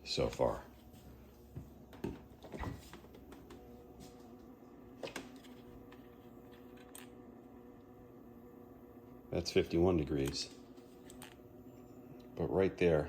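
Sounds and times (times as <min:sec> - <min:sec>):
refrigerator humming: 0:00.0 - 0:13.0.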